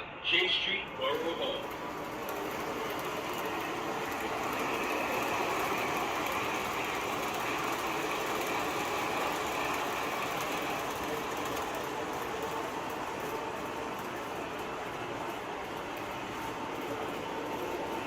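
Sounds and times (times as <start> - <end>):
model train rolling: 0.3 - 18.0.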